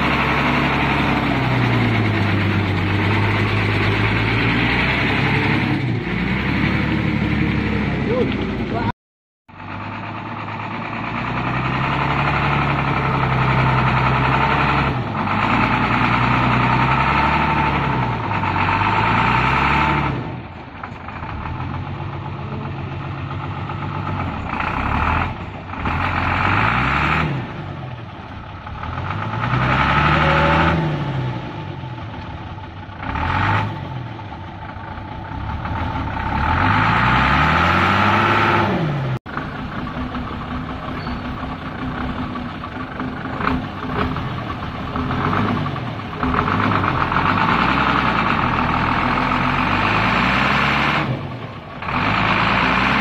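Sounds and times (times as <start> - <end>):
diesel truck engine revving: 0.0 - 8.9, 9.5 - 53.0.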